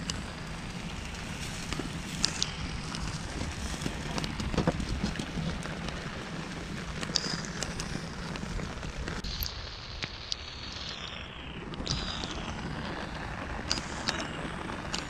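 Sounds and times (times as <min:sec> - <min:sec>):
burning straw crackling: 0:00.0 - 0:15.0
wind on microphone: 0:00.0 - 0:15.0.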